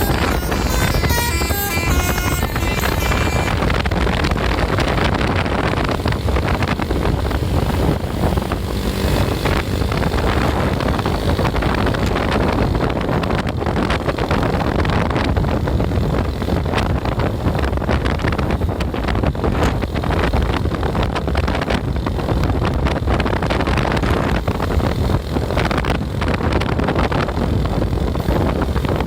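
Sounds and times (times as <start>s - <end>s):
moving vehicle road noise: 0.0s - 29.0s
wind buffeting microphone: 0.0s - 29.0s.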